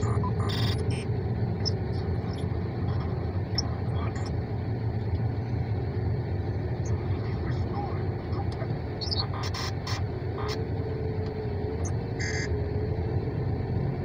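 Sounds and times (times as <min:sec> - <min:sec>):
low rumble inside a car: 0:00.0 - 0:14.0.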